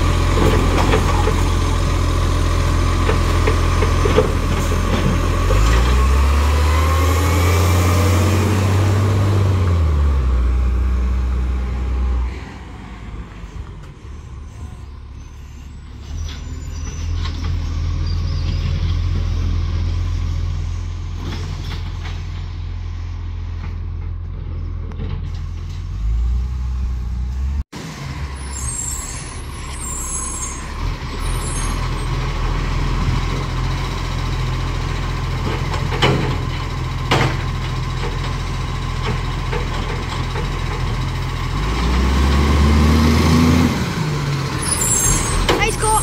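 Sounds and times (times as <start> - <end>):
garbage truck engine running: 0.0 - 12.1, 13.8 - 46.0.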